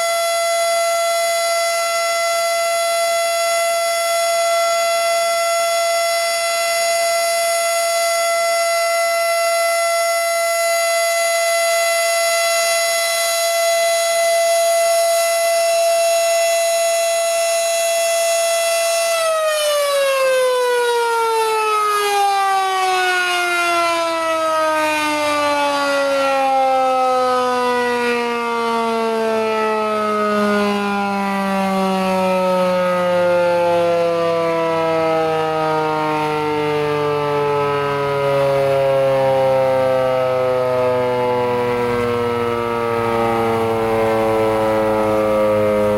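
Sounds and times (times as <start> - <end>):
tornado siren winding down: 0.0 - 45.9.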